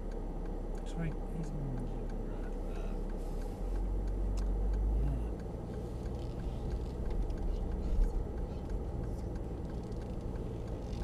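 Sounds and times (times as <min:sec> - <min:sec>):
engine and tyre rumble: 0:00.0 - 0:11.0
faint clicks: 0:00.0 - 0:11.0.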